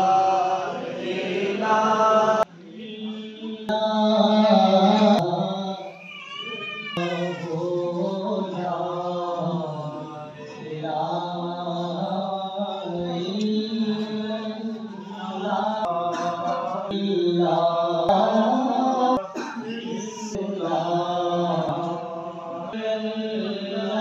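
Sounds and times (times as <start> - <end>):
man chanting: 1.4 - 5.9, 7.0 - 24.0.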